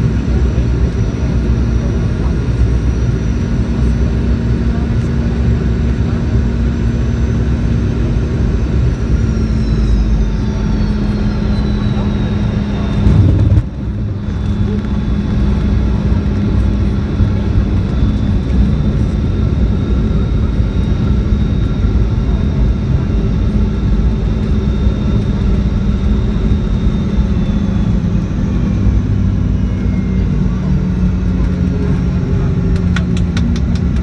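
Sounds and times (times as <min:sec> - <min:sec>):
airplane cabin engine rumble: 0:00.0 - 0:34.0
faint high engine whine: 0:00.0 - 0:34.0.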